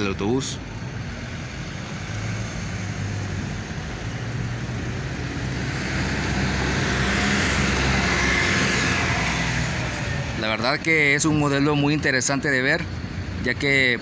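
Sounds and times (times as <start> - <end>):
vehicle engine and tyres: 0.0 - 14.0.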